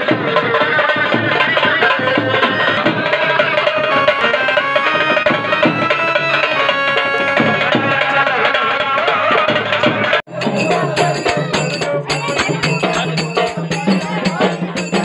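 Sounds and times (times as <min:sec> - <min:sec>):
folk dance music with drums: 0:00.0 - 0:15.0.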